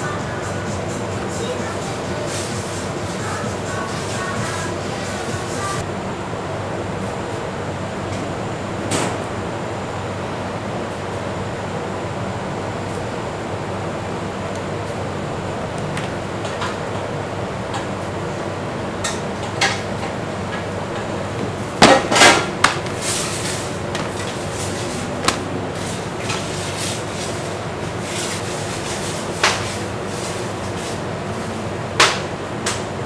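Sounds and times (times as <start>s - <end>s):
steady background noise: 0.0s - 33.0s.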